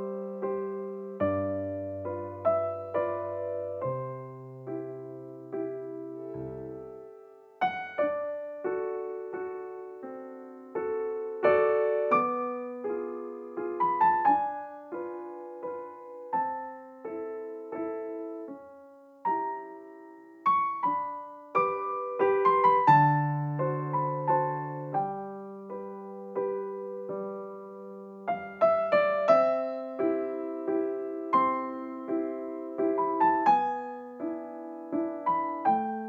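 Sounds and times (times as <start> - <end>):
gentle piano music: 0.0 - 36.0.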